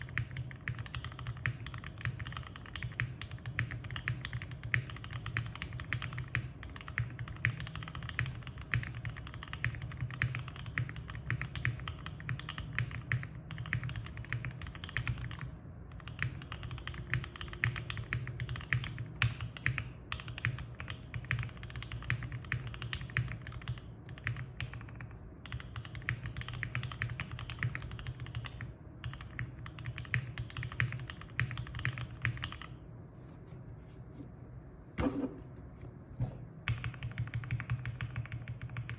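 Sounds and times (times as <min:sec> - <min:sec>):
fast mechanical keyboard typing: 0:00.0 - 0:32.8, 0:36.7 - 0:38.9.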